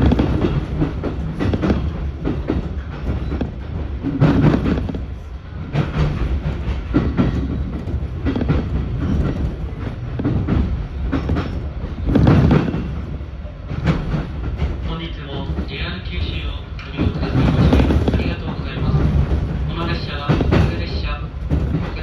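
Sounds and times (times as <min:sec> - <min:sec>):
train rumbling on rails: 0:00.0 - 0:22.0
wheels clacking over rail joints: 0:00.0 - 0:22.0.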